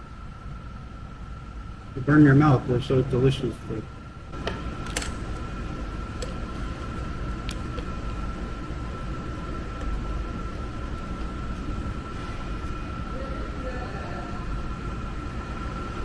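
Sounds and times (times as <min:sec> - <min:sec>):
low rumbling background noise: 0:00.0 - 0:16.0
thin high hum: 0:00.0 - 0:16.0.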